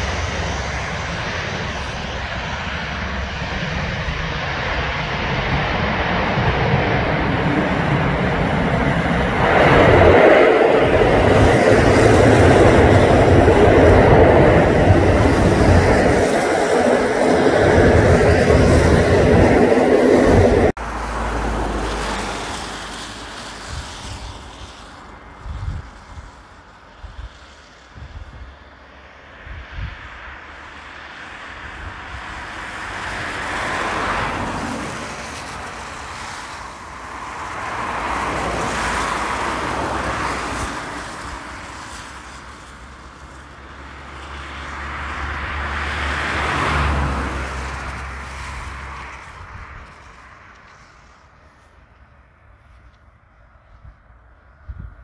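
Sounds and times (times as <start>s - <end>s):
vehicles passing close by: 0.0s - 55.0s.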